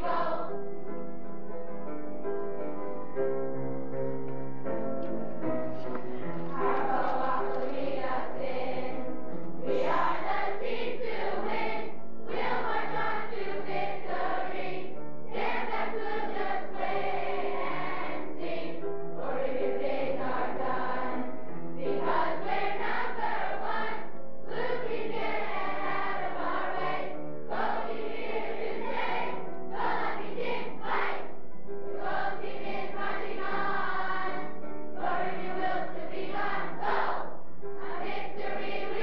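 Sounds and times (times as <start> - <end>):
group singing together: 0.0 - 0.6, 6.0 - 39.0
keyboard accompaniment: 0.0 - 39.0.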